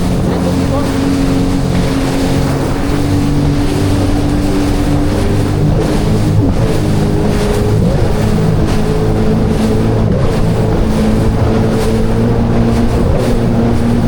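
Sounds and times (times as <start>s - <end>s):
jet ski engine drone: 0.0s - 14.0s
water rushing: 0.0s - 14.0s
wind: 0.0s - 14.0s.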